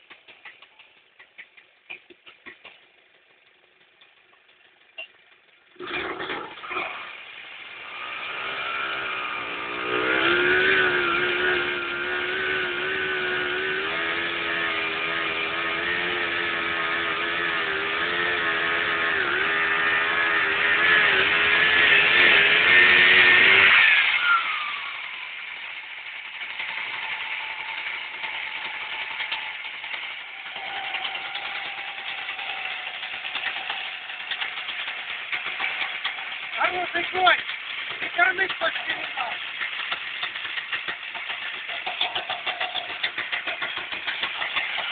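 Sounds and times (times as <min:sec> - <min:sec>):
engine idling: 0:00.0 - 0:44.9
two-stroke engine revving: 0:04.0 - 0:44.9.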